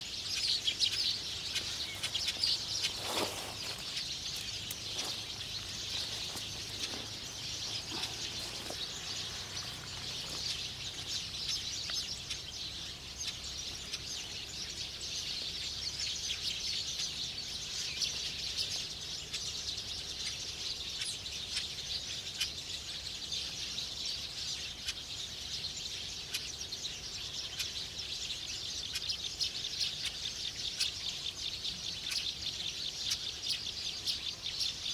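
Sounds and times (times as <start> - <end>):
birds chirping and twittering: 0.0 - 34.9.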